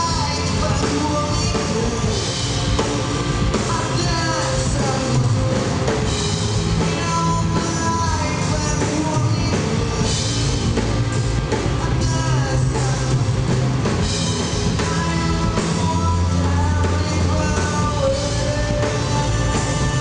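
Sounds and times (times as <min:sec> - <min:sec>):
drum kit: 0:00.0 - 0:20.0
electric bass: 0:00.0 - 0:20.0
electric guitar: 0:00.0 - 0:20.0.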